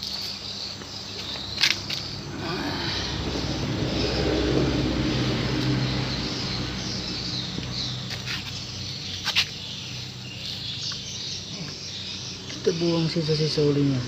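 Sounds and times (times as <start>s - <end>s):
birds chirping: 0.0s - 14.0s
insects chirping: 0.0s - 14.0s.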